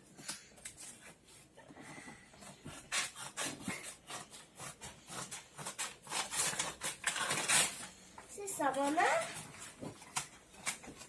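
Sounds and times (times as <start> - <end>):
scissors scraping cardboard: 0.2 - 11.0.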